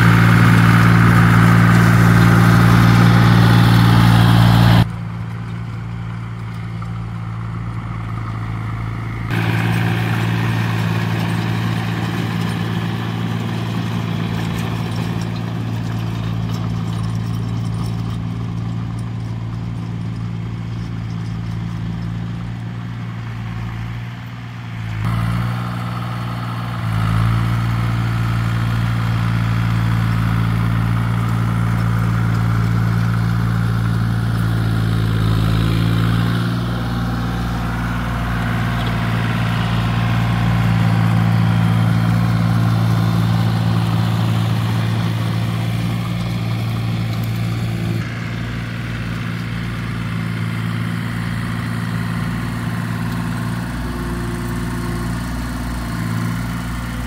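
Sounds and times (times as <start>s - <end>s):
farm machine engine running: 0.0s - 57.0s.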